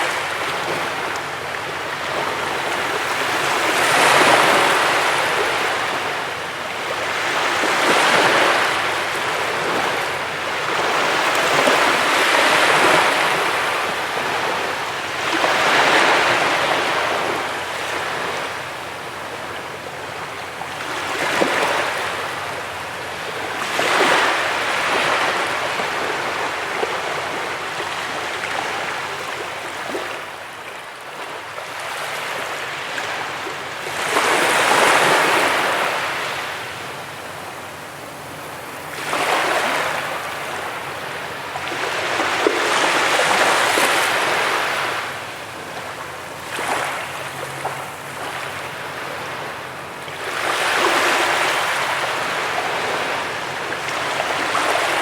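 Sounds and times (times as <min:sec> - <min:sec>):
sea waves on beach: 0:00.0 - 0:55.0.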